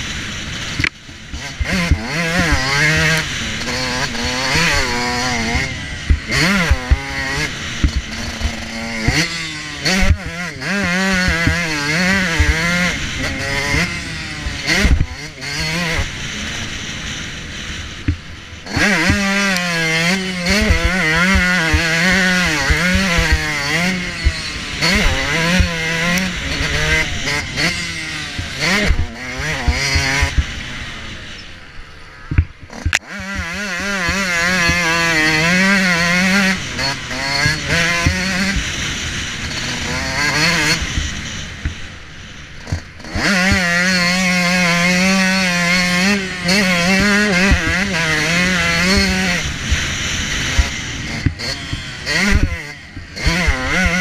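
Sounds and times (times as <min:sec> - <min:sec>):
knocks and buffets: 0:00.0 - 0:54.0
motorbike engine revving: 0:00.0 - 0:54.0.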